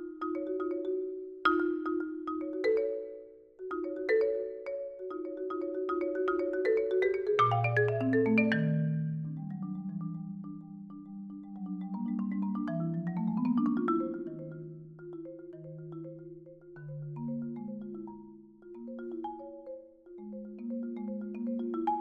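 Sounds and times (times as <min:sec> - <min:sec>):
solo marimba: 0:00.0 - 0:22.0.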